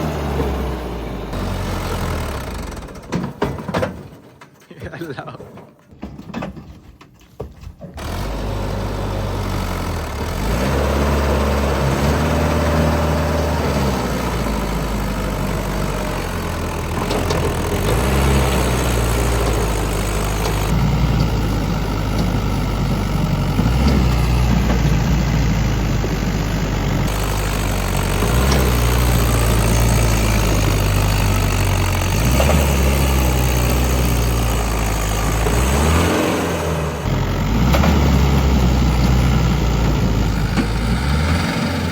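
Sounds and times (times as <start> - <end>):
diesel tractor engines under load: 0.0 - 41.9.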